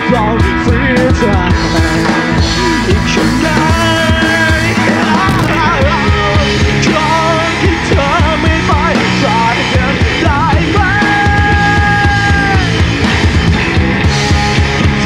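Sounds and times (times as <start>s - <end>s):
man singing: 0.0s - 12.8s
bass guitar: 0.0s - 15.0s
drum kit: 0.0s - 15.0s
electric guitar: 0.0s - 15.0s.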